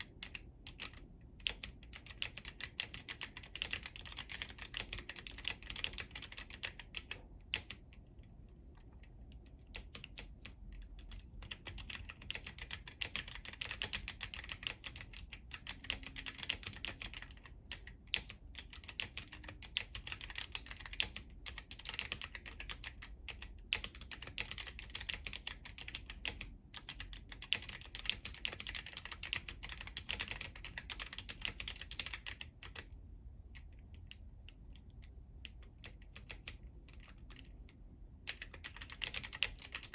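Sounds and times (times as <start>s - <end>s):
mechanical keyboard typing: 0.0s - 8.1s, 8.8s - 33.0s, 34.8s - 39.9s.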